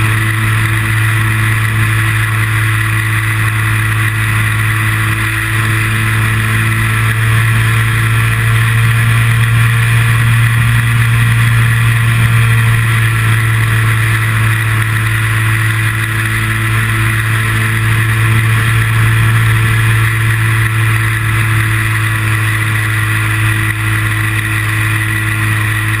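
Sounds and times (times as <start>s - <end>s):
aircraft engine and propeller drone: 0.0s - 26.0s.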